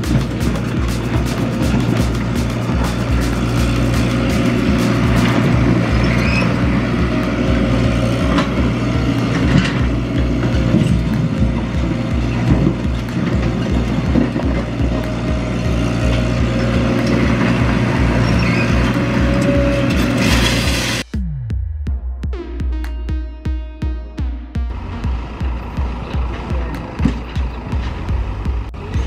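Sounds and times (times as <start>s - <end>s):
excavator diesel engine running: 0.0s - 21.1s, 22.3s - 29.0s.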